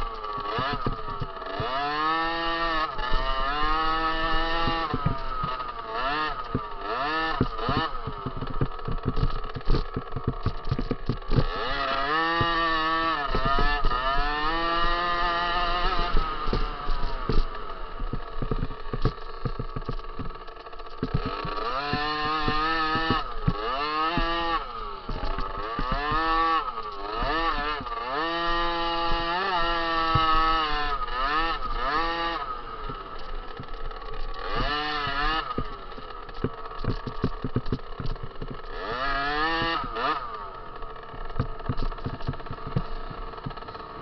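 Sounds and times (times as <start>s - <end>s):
knocks and rattles: 0.0s - 30.7s, 32.8s - 44.0s
dirt bike engine revving: 0.0s - 44.0s.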